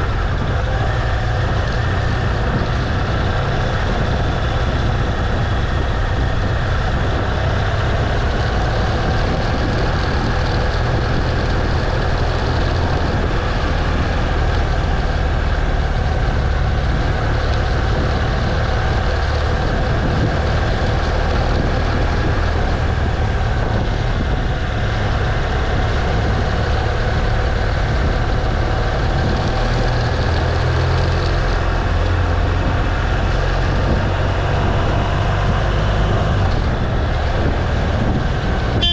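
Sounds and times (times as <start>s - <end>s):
motorbike engine rumbling: 0.0s - 38.9s
wind and road noise: 0.0s - 38.9s.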